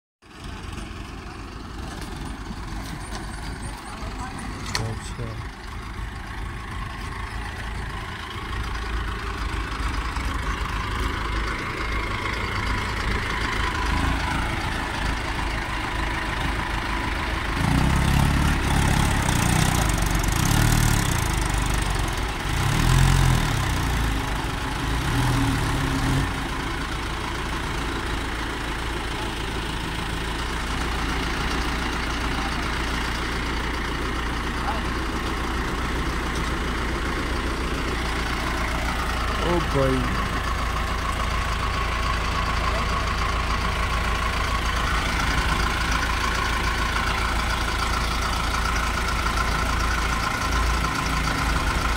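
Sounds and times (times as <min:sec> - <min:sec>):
tractor diesel engine revving: 0:00.3 - 0:51.9.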